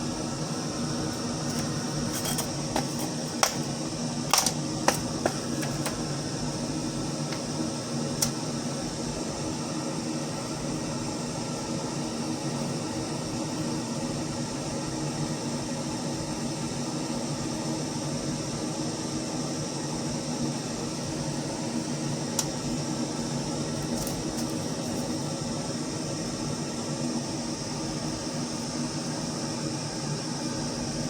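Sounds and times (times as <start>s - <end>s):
laser router fans and motors humming: 0.0s - 31.0s.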